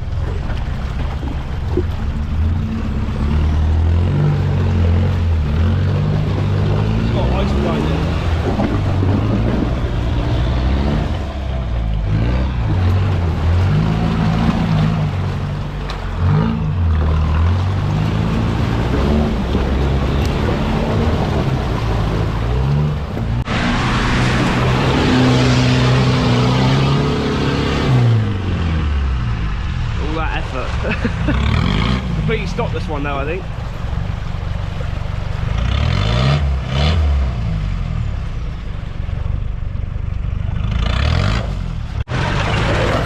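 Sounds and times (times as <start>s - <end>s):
churning water and spinning tyres: 0.0s - 43.0s
off-road engine revving: 0.0s - 43.0s.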